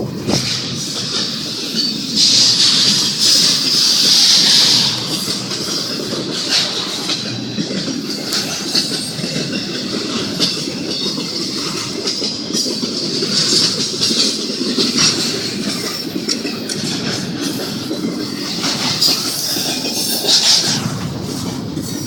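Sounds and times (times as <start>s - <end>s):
freight train wheels clacking: 0.0s - 22.0s.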